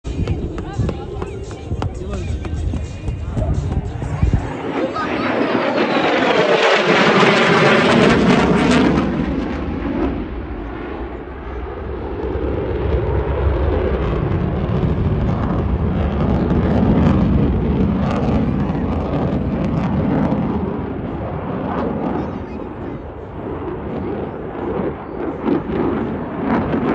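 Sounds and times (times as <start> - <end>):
jet engine roaring: 0.0 - 26.9.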